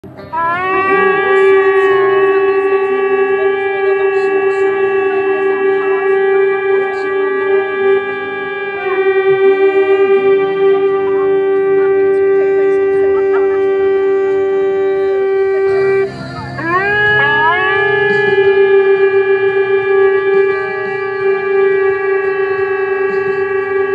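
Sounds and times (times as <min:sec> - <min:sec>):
shofar blast: 0:00.0 - 0:23.9.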